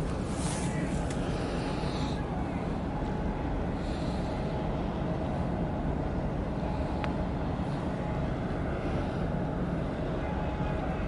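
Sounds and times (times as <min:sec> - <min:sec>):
faint steady hum: 0:00.0 - 0:11.0
ship engines rumbling: 0:00.0 - 0:11.0.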